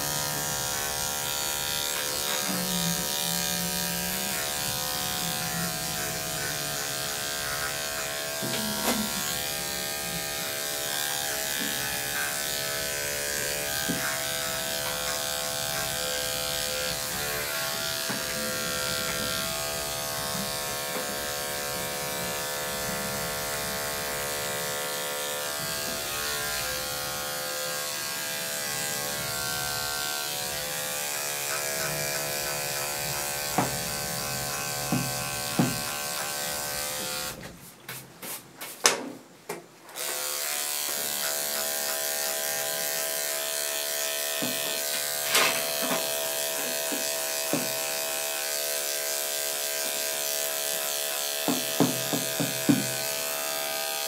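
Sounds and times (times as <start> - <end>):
electric clippers humming: 0.0 - 37.4, 40.0 - 54.0.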